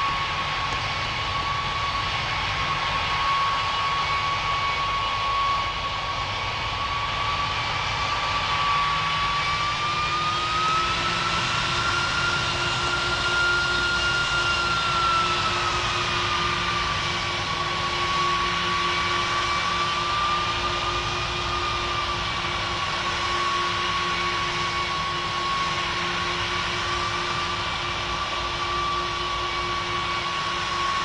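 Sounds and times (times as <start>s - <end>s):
jet engine roar and whine: 0.0s - 31.0s.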